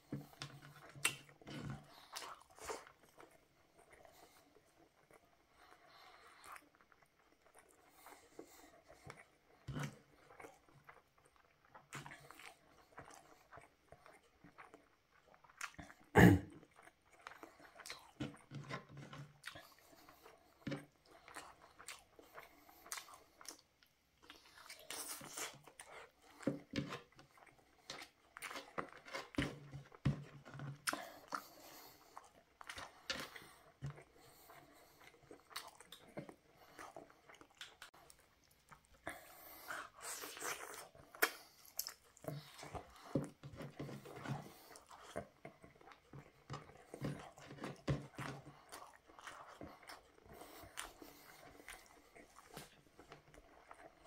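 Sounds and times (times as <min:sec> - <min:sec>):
man chewing and eating: 0:00.0 - 0:54.0.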